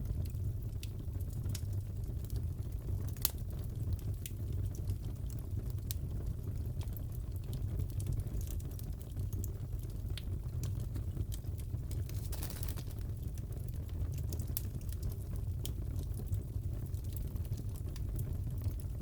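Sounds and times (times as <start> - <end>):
fire crackling: 0.0 - 19.0
fire pops and snaps: 0.1 - 5.0, 5.8 - 19.0.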